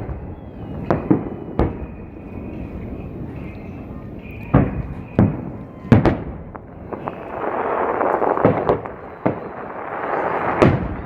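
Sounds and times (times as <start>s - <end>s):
fireworks bursting bangs: 0.0s - 11.0s.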